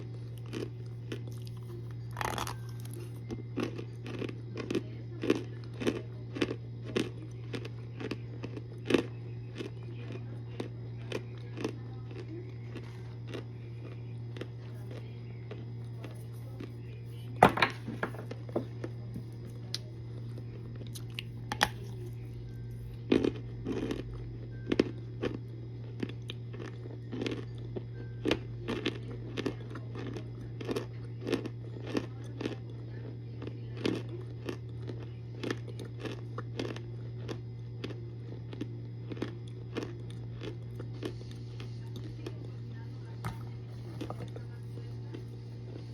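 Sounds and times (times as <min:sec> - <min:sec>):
crunchy chewing: 0:00.0 - 0:45.9
steady low hum: 0:00.0 - 0:45.9.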